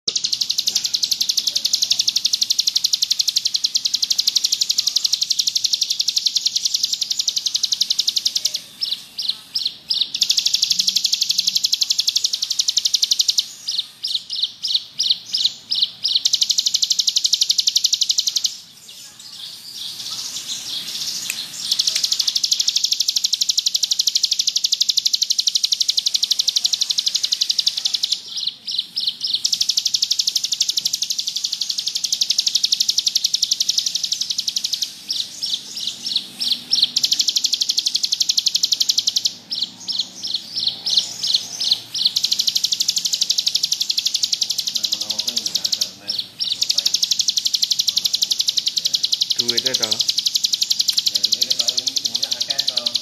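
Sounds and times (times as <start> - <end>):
bird singing buzzing trill: 0.1 - 53.0.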